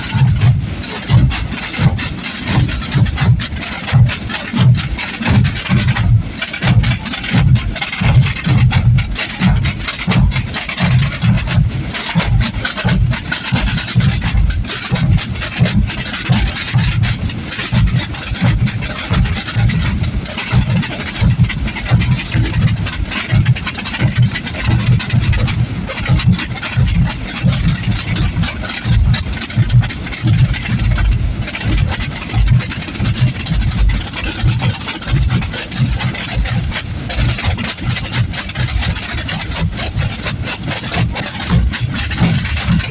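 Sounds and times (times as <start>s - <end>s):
bass drum thumps: 0.0s - 42.9s
snare drums rattling: 0.0s - 42.9s.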